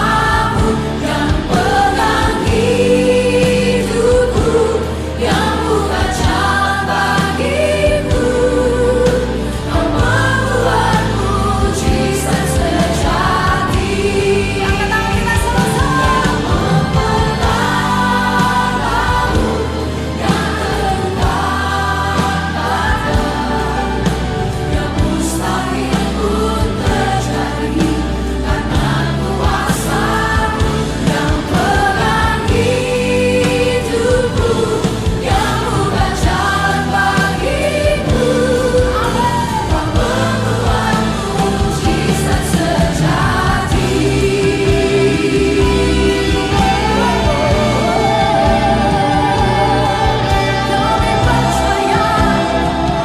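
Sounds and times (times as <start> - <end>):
band playing: 0.0 - 53.0
choir singing worship song: 0.0 - 53.0.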